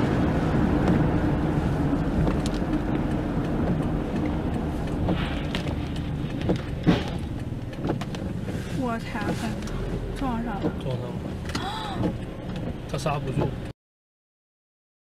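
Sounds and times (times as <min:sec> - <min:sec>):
tyre noise on wet road: 0:00.0 - 0:13.7
windscreen wipers knocking: 0:00.0 - 0:13.7.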